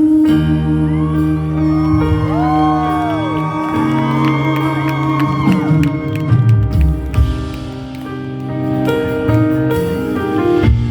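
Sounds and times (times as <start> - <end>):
live band sustained chords: 0.0 - 10.9.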